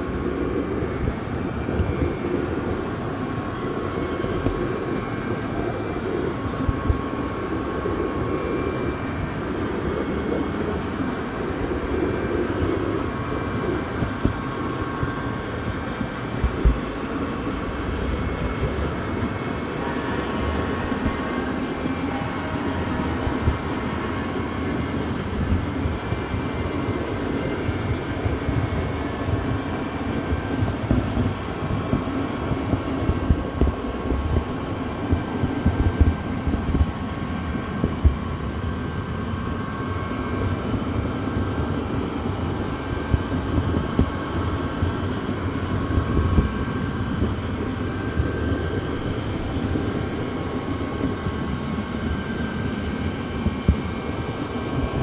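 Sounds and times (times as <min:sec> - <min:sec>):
faint steady tones: 0:00.0 - 0:55.0.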